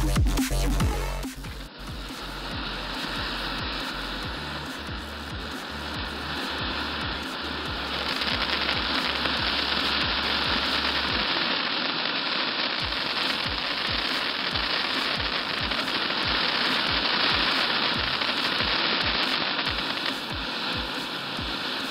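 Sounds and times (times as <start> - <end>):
background music with low beat: 0.0 - 11.3, 12.8 - 21.9
firework fountain hissing: 0.0 - 21.9.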